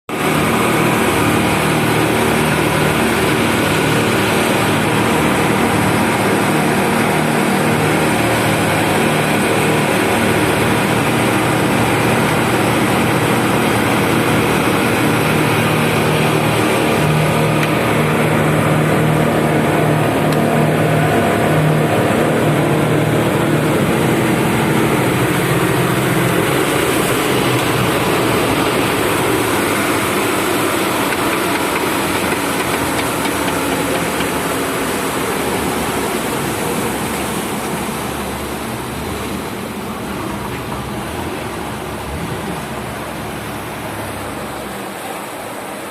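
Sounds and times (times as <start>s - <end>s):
boat engine running: 0.1s - 45.9s
water and wind rushing: 0.1s - 45.9s.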